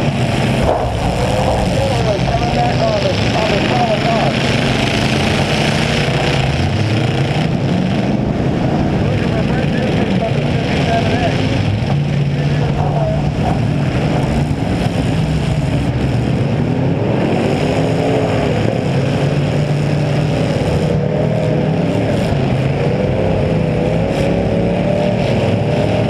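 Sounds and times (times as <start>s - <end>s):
car engines revving loudly: 0.0s - 26.0s.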